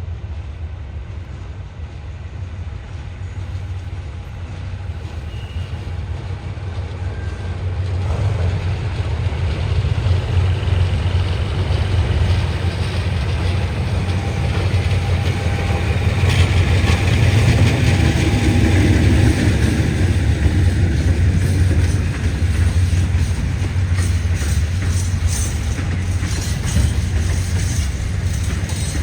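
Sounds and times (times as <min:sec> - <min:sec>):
train rumbling by: 0:00.0 - 0:29.0.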